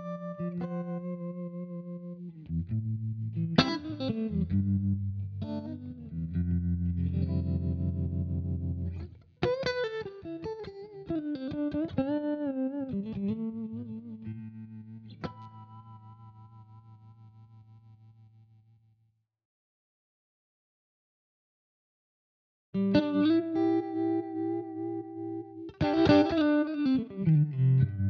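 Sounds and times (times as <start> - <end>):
electric guitar with pulsing tone: 0.0 - 18.6, 22.8 - 28.0.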